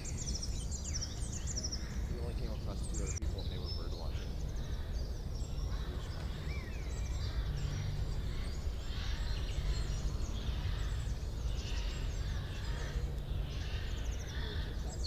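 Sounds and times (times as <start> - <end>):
birds chirping and trilling: 0.0 - 15.0.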